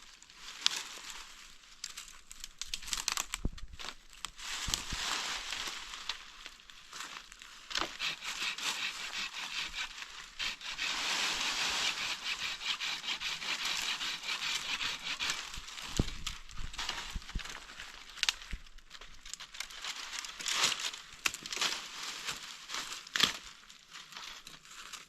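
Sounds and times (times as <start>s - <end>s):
dry wood scraping and crackling: 0.1s - 25.0s.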